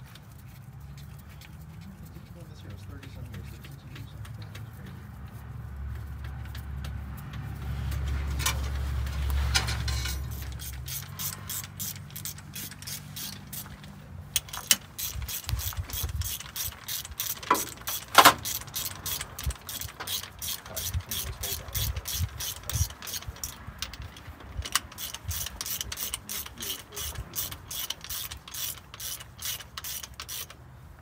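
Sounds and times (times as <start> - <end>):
ratchet wrench clicking: 2.8 - 30.6.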